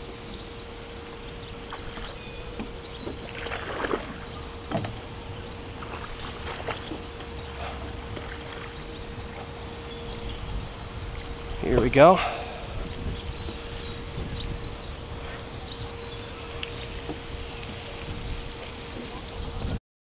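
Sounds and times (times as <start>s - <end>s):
faint steady hum: 0.0s - 19.8s
water splashing and sloshing: 0.0s - 19.8s.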